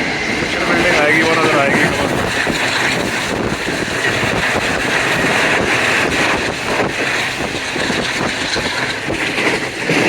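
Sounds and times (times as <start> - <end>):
train rumbling: 0.0 - 10.0
wind on microphone: 0.0 - 10.0.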